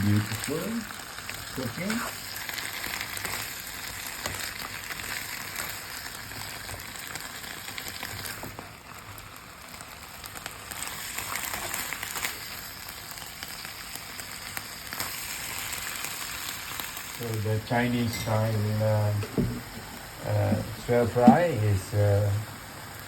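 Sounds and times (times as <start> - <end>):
food sizzling in a hot pan: 0.0 - 23.0.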